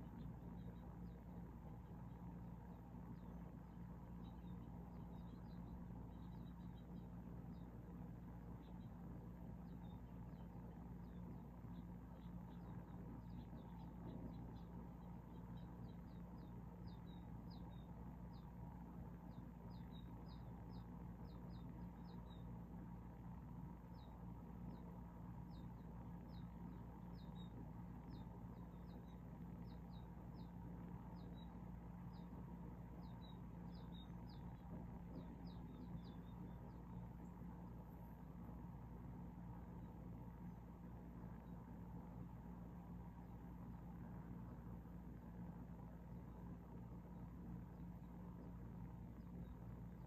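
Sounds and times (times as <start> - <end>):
songbirds cheeping: 0.0 - 50.0
steady low hum: 0.0 - 50.0.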